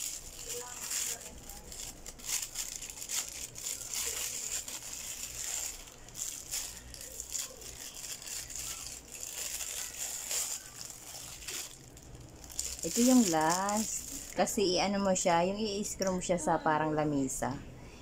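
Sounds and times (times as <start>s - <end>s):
packaging and paper crinkling: 0.0s - 14.5s.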